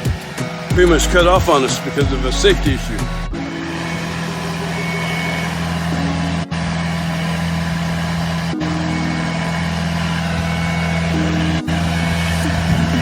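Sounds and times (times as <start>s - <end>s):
boom lift engine humming: 0.0s - 13.0s.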